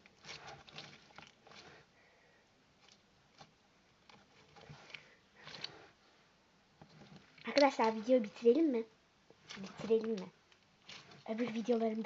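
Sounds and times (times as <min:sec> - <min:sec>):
soft handling rustles and ticks: 0:00.0 - 0:02.0, 0:02.7 - 0:12.0.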